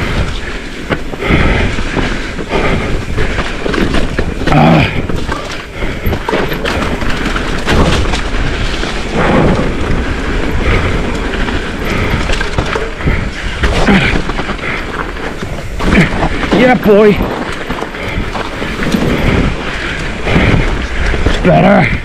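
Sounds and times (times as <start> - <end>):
bike thuds and clatter: 0.0 - 22.0
wind buffeting microphone: 0.0 - 22.0.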